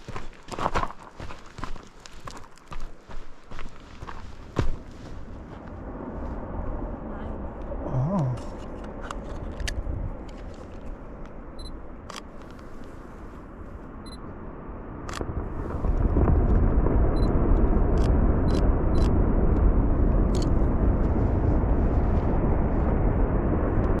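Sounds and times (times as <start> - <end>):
distant avalanche rumble: 0.0 - 24.0.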